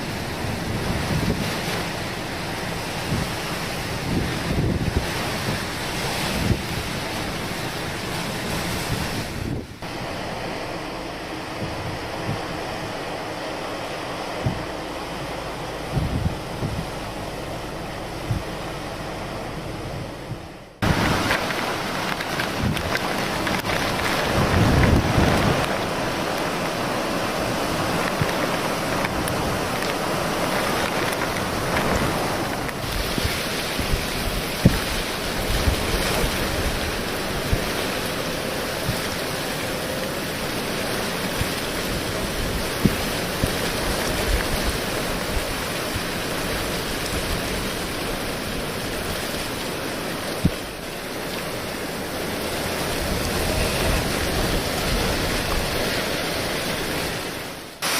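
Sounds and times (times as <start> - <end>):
wind buffeting microphone: 0.0 - 13.1, 14.1 - 57.5
rain: 0.0 - 57.9
rushing floodwater: 0.0 - 57.9.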